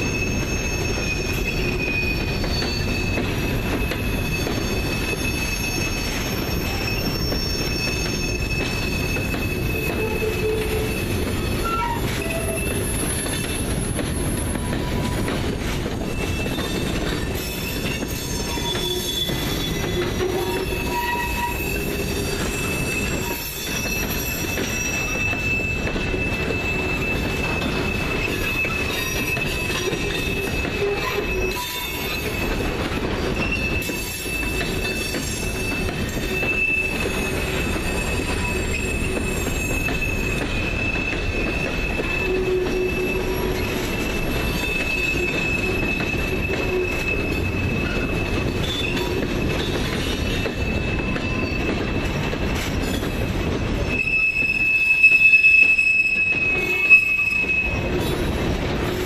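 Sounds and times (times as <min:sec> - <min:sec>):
rumble of wheels on rail: 0:00.0 - 0:59.0
train wheels squealing: 0:00.0 - 0:59.0.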